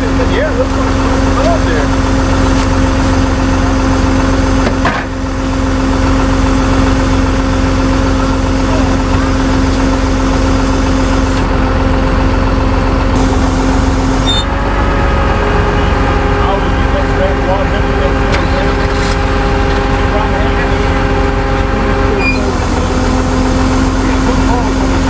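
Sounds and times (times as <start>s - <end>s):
truck engine humming: 0.0s - 25.0s.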